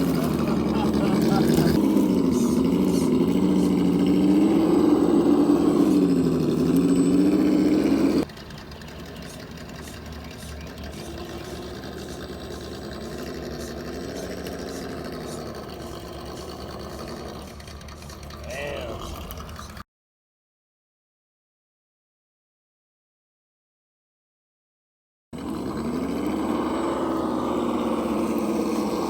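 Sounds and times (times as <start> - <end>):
simulated truck engine idling: 0.0 - 19.8, 25.4 - 29.0.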